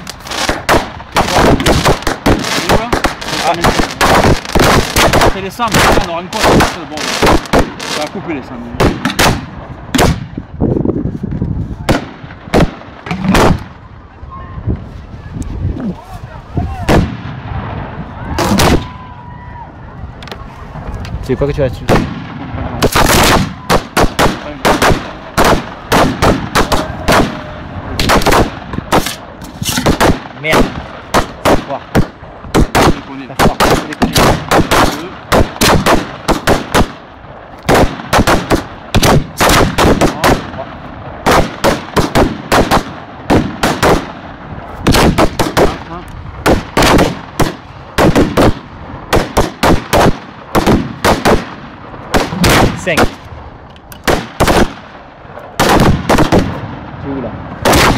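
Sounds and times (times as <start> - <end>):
fireworks bangs: 0.0 - 10.6, 11.2 - 13.9, 16.0 - 19.2, 20.2 - 57.9.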